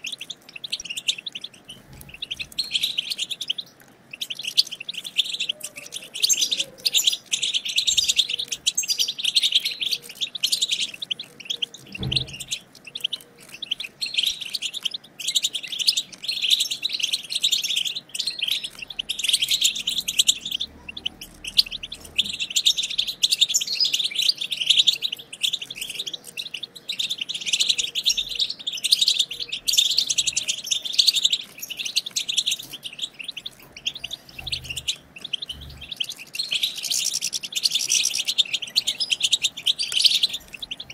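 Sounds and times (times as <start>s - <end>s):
goldfinches chattering and twittering: 0.0s - 40.9s.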